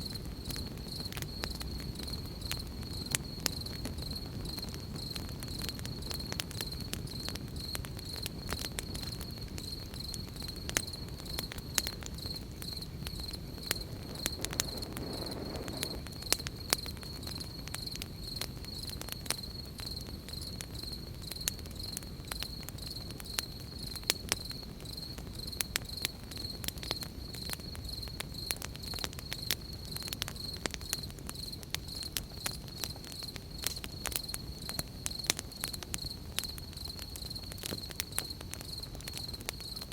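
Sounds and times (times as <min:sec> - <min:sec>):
campfire crackling: 0:00.0 - 0:39.9
crickets trilling: 0:00.0 - 0:39.9.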